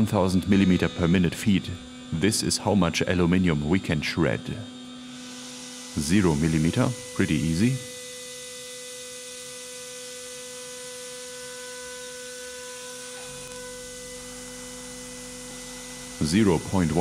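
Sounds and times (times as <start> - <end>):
milling spindle whine: 0.0 - 17.0.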